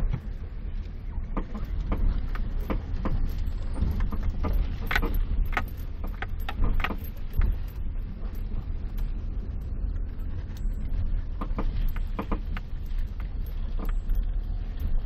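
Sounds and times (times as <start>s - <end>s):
steady low rumble: 0.0s - 15.0s
suspension knocking and squeaking: 0.0s - 15.0s.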